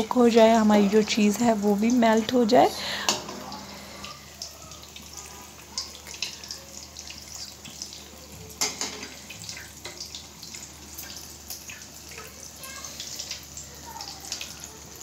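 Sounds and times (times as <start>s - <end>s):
food frying in hot oil: 0.0s - 15.0s.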